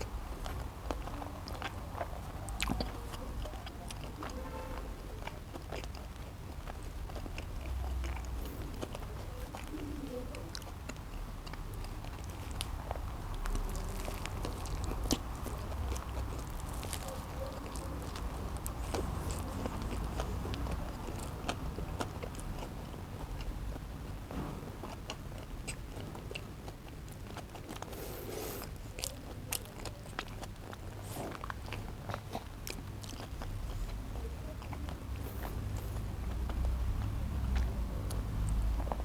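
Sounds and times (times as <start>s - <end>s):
person chewing a burger: 0.0s - 39.0s.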